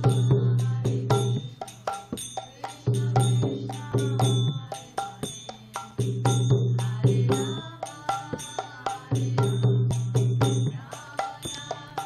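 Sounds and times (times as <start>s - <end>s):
barrel drum played by hand: 0.0s - 12.0s
high metallic ringing: 0.0s - 12.0s.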